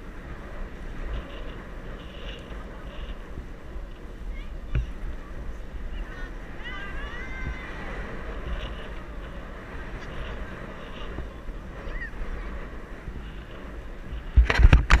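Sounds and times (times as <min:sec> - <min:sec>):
vehicle road noise: 0:00.0 - 0:15.0
wind rush on microphone: 0:00.0 - 0:15.0.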